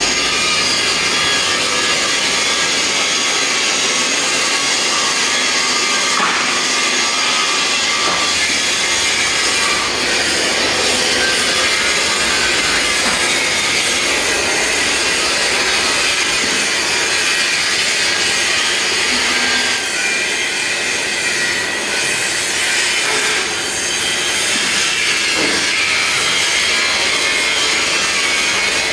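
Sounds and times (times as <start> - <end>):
welding machine hissing: 0.0 - 28.9.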